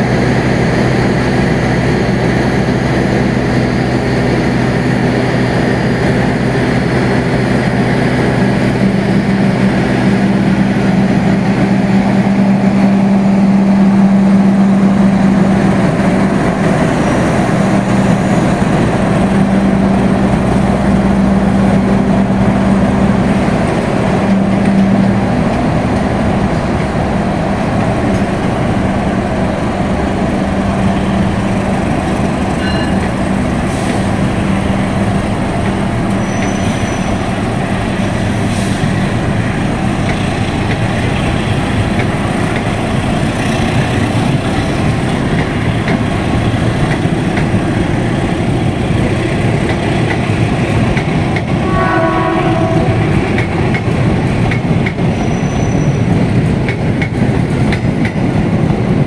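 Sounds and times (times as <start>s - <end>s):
diesel engine drone: 0.0s - 59.0s
train coaches rumbling and clattering: 0.0s - 59.0s.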